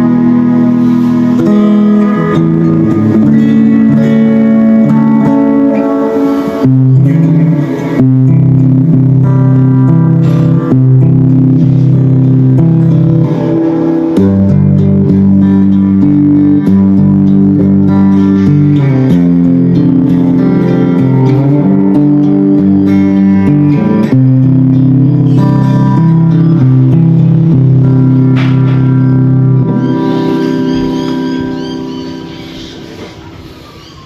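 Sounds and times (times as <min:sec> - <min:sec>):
electric guitar chords: 0:00.0 - 0:34.0.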